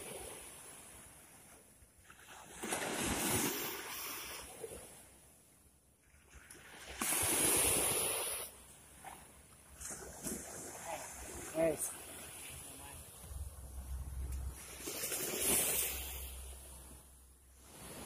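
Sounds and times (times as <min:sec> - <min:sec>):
sea waves against seawall: 0:00.0 - 0:18.0.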